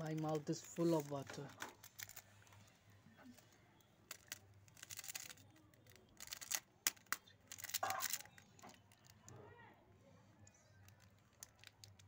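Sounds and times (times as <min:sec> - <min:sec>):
plastic sachets crinkling: 0:00.0 - 0:02.4, 0:03.3 - 0:09.3, 0:10.8 - 0:12.0.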